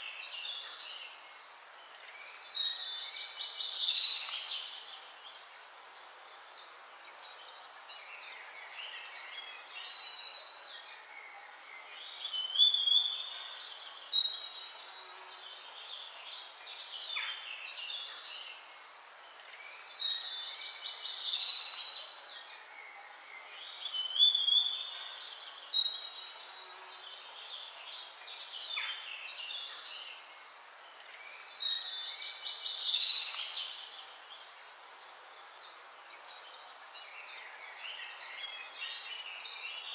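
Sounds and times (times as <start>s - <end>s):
faint hiss: 0.0s - 39.9s
songbirds singing: 0.0s - 39.9s.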